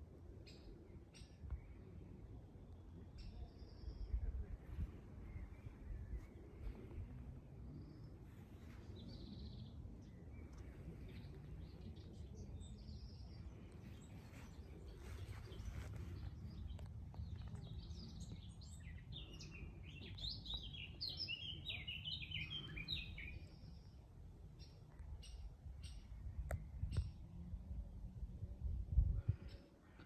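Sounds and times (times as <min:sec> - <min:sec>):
low background rumble: 0:00.0 - 0:30.0
songbird chirping: 0:00.4 - 0:27.3.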